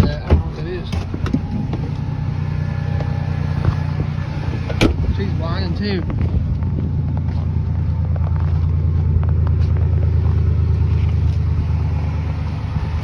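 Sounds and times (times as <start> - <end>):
car engine idling: 0.0 - 13.0
faint engine whine: 0.0 - 13.0.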